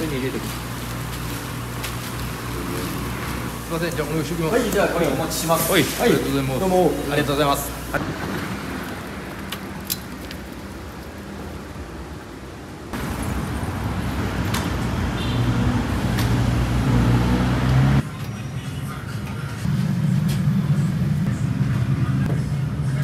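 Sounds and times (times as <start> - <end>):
road traffic hum: 0.0 - 23.0.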